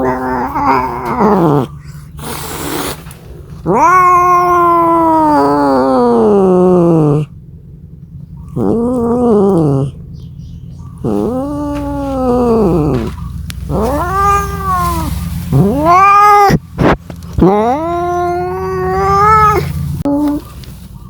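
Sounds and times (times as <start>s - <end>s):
cat yowling: 0.0s - 7.3s, 8.5s - 10.0s, 11.0s - 20.5s
steady low hum: 0.0s - 21.0s.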